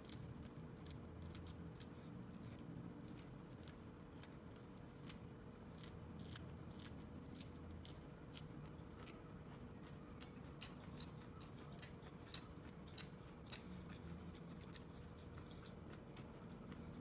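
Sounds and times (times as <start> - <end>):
person chewing corn kernels: 0.0 - 17.0.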